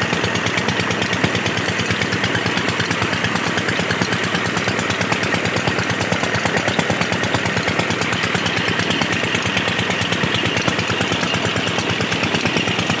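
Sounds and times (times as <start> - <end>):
diesel engine running: 0.0 - 13.0
water gushing from pipe: 0.0 - 13.0.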